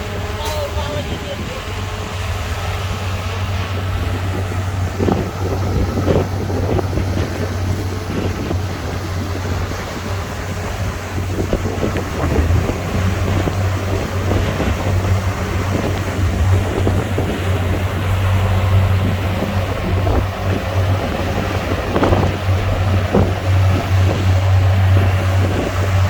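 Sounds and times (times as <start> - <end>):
diesel engine droning: 0.0 - 26.0
wind noise on microphone: 0.0 - 26.0.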